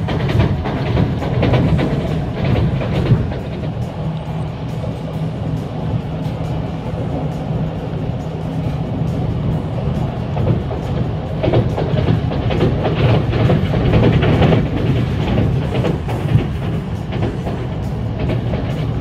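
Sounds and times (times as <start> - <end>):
music playing: 0.0 - 19.0
train rumbling: 0.0 - 19.0
wheels clattering over rails: 0.0 - 19.0.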